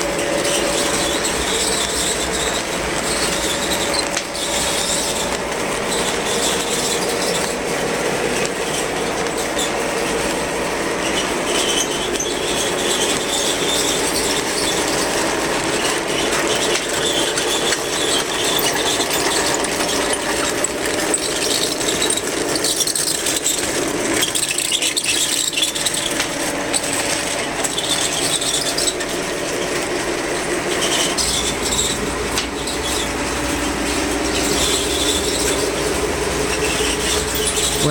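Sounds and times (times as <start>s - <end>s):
model train running on track: 0.0s - 37.9s
wheels squealing: 0.0s - 37.9s.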